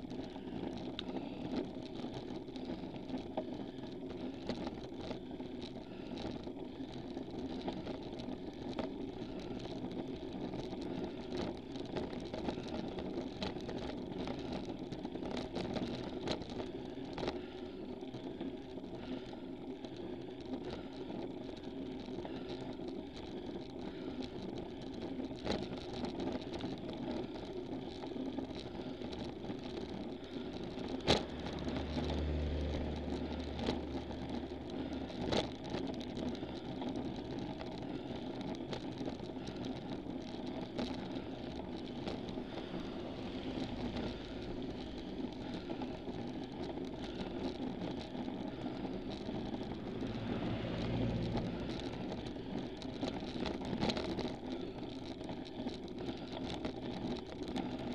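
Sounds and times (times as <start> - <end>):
bicycle tyres and drivetrain rumble: 0.0 - 57.9
small bicycle clicks: 0.0 - 57.9.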